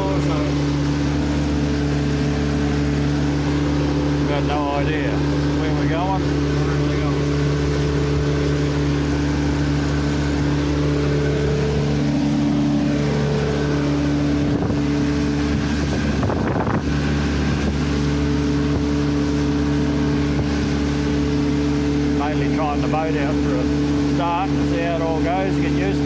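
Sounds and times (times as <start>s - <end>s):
outboard motor running: 0.0s - 26.0s
water rushing past hull: 0.0s - 26.0s.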